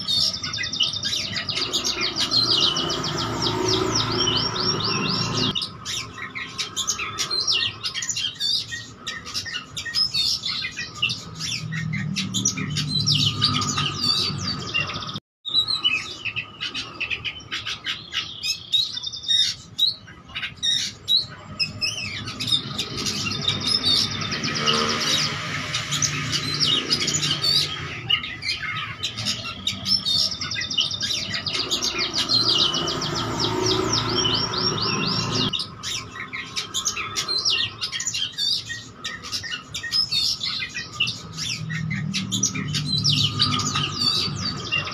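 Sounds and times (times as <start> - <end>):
songbird singing chirps and trills: 0.0 - 44.9.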